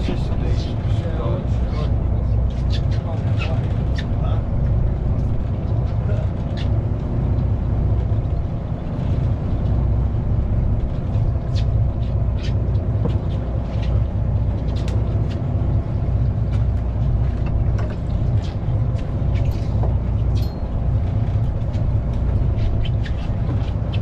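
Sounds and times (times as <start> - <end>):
boat engine rumble: 0.0 - 24.0.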